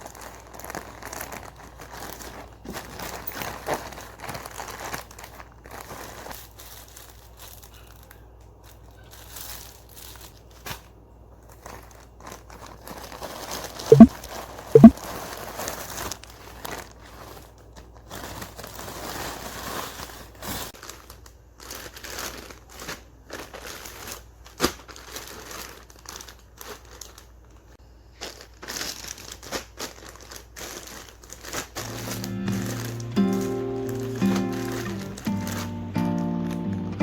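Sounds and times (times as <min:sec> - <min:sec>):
packaging crinkling and rustling: 0:00.0 - 0:36.8.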